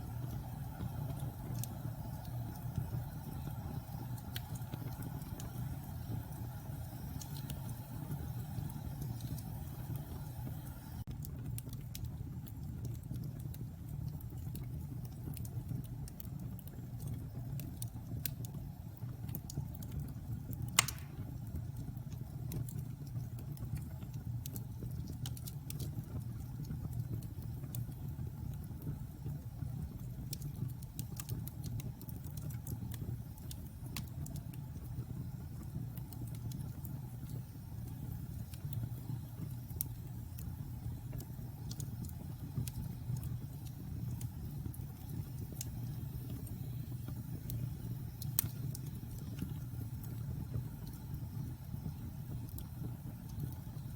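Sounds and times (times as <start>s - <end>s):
fire crackling and popping: 0.0s - 53.9s
fire flames rumbling: 0.0s - 53.9s.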